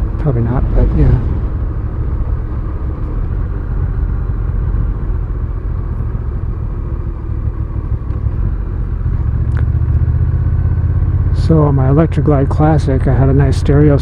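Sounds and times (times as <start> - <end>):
motorcycle engine rumbling: 0.0 - 14.0
wind and road noise: 0.0 - 14.0.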